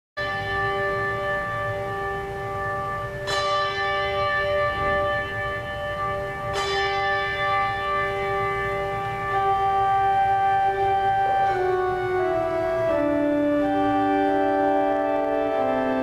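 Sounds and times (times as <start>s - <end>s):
bells ringing: 0.2s - 16.0s.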